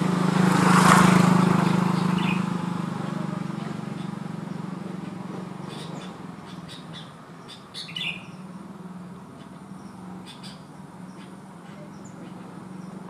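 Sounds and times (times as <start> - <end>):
bird chirping calls: 0.7 - 13.0.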